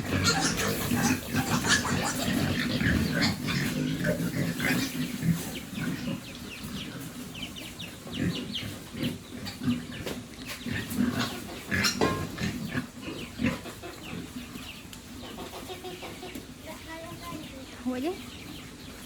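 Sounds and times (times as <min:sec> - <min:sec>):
pigs grunting: 0:00.0 - 0:16.2
high-pitched pig calls: 0:00.0 - 0:16.5.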